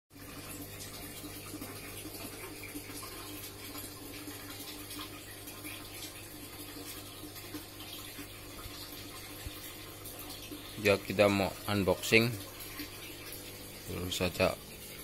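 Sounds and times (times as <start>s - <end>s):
water running: 0.1s - 15.0s.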